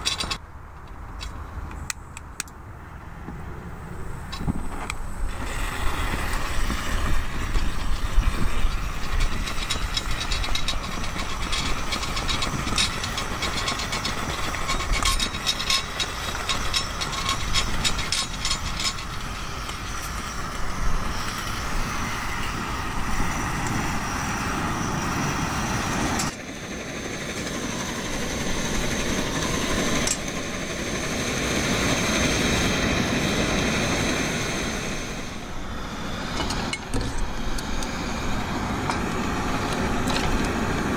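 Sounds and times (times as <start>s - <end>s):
camp stove flame rushing: 4.0s - 40.9s.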